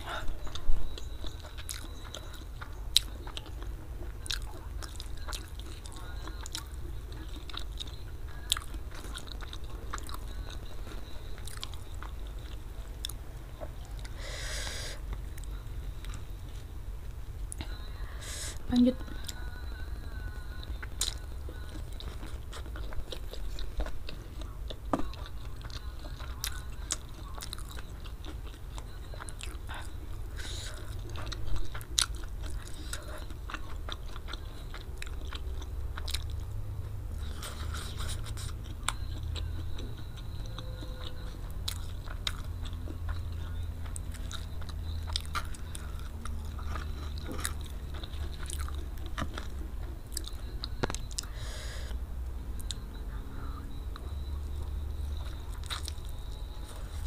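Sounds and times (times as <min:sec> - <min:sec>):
close-up chewing noodles: 0:00.0 - 0:18.1, 0:19.0 - 0:53.1, 0:53.7 - 0:57.0
steady low hum: 0:00.0 - 0:57.0.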